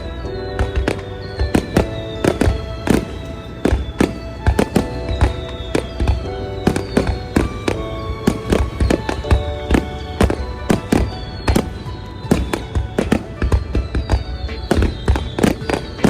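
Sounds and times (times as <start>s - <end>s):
fireworks banging: 0.0s - 16.0s
music with sustained tones: 0.0s - 16.0s.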